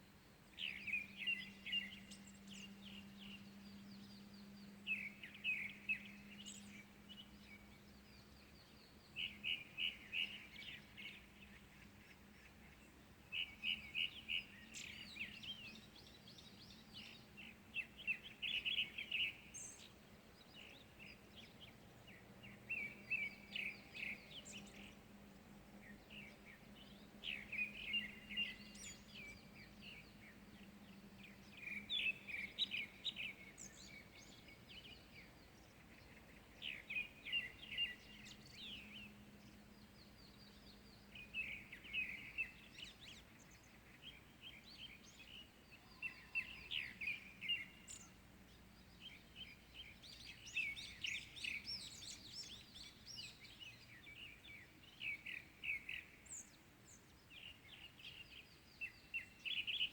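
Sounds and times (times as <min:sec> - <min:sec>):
small birds chattering: 0:00.5 - 0:59.9.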